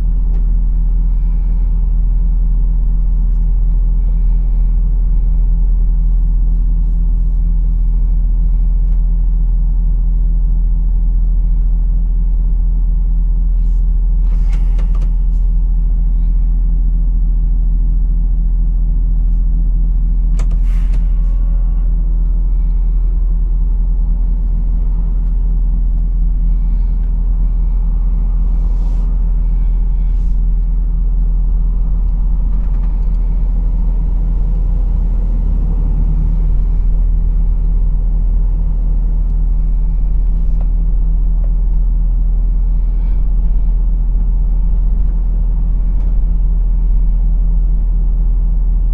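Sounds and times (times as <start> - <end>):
lorry diesel engine running: 0.0 - 48.9.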